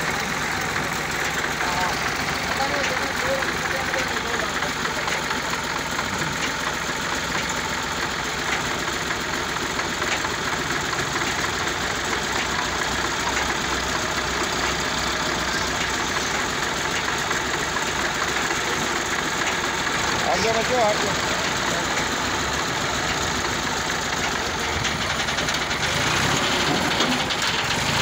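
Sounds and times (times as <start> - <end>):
second tractor working gravel: 0.0 - 28.0
tractor diesel engine running: 0.0 - 28.0.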